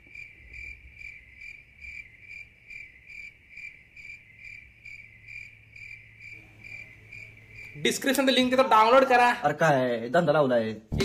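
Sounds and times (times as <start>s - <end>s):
cricket chirping: 0.0s - 9.6s.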